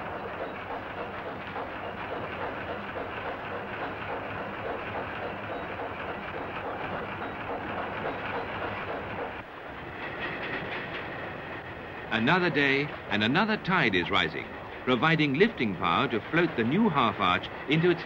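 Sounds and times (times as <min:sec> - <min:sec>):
train rumbling across bridge: 0:00.0 - 0:18.0.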